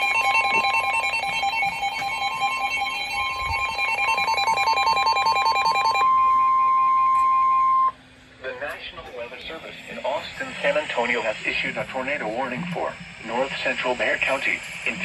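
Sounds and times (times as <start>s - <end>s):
steady high tone: 0.0s - 8.0s, 9.1s - 15.0s.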